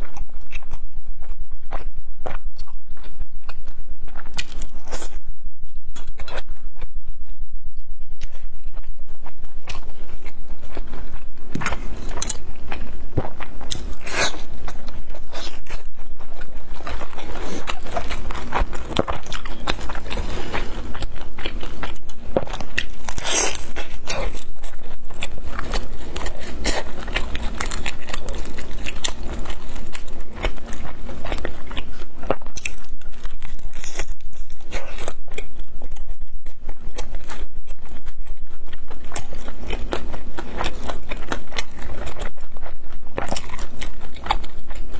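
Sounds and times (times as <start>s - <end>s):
crunchy fried food chewing: 0.0s - 7.0s, 7.7s - 44.9s.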